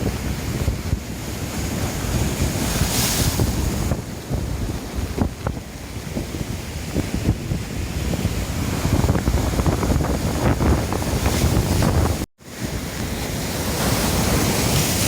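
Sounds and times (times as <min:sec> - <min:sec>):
sea waves breaking on a beach: 0:00.0 - 0:15.0
wind buffeting the microphone: 0:00.0 - 0:15.0.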